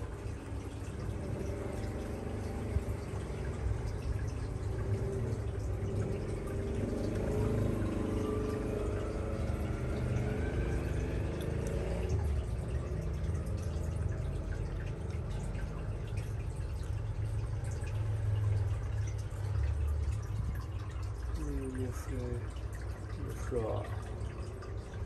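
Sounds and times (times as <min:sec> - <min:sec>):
low steady hum: 0:00.0 - 0:25.0
small water splashes: 0:00.0 - 0:25.0
water trickling and dripping: 0:00.0 - 0:25.0.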